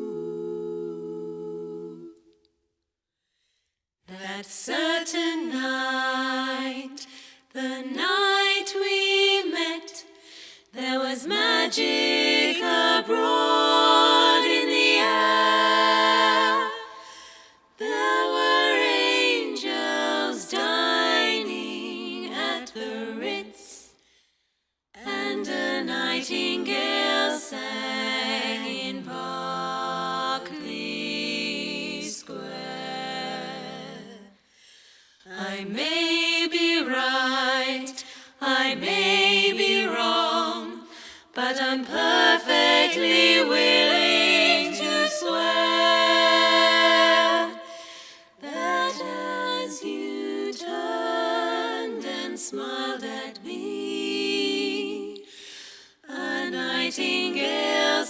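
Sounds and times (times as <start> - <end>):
voices singing a cappella: 0.0 - 2.6, 4.1 - 24.3, 25.0 - 58.0.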